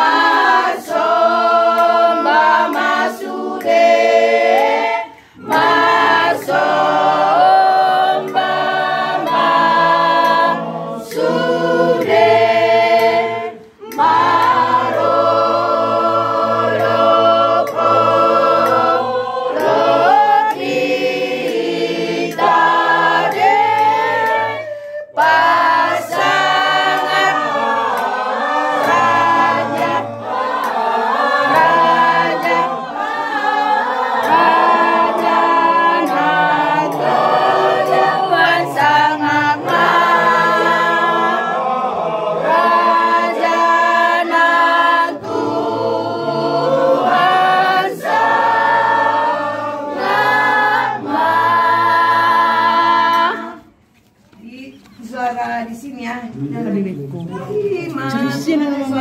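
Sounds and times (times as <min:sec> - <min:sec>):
mixed choir singing a cappella: 0:00.0 - 0:54.2, 0:55.0 - 0:59.0.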